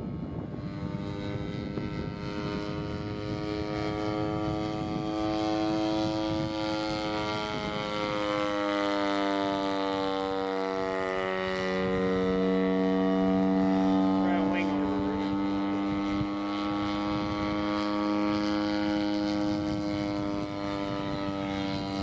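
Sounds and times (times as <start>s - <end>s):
model plane engine drone: 0.0s - 22.0s.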